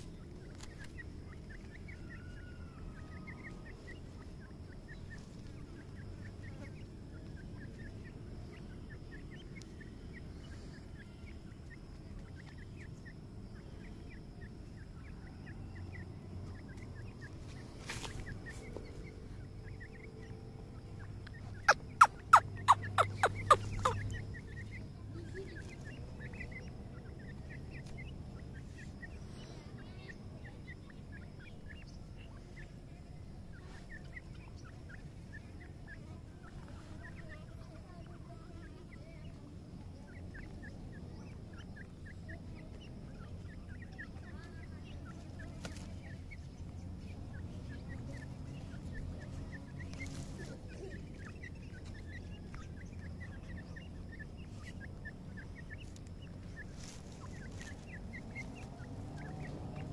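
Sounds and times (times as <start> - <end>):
chicks chirping: 0.0 - 59.9.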